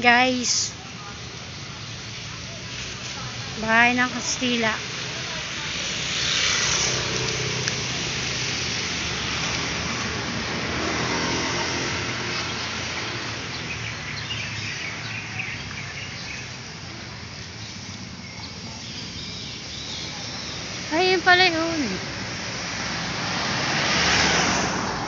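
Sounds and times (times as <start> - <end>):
passing cars traffic: 0.0 - 25.0.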